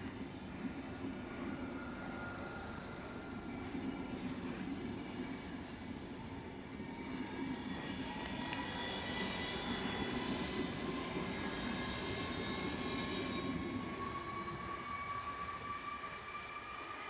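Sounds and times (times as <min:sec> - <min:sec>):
high electric train whine: 0:00.0 - 0:17.0
train wheels rumbling on rails: 0:00.0 - 0:17.0.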